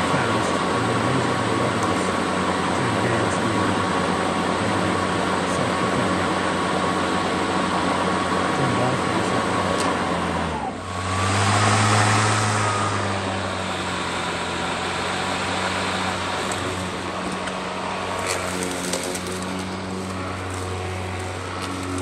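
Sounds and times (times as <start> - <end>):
lawn mower running: 0.0 - 22.0.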